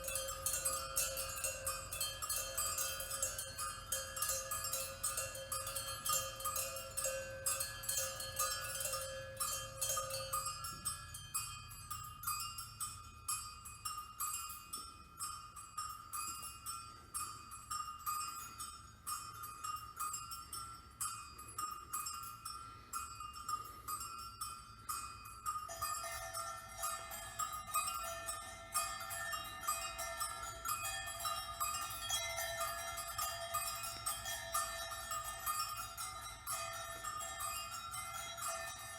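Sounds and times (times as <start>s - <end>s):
held ringing tones: 0.0s - 38.9s
small bells tinkling: 0.0s - 38.9s.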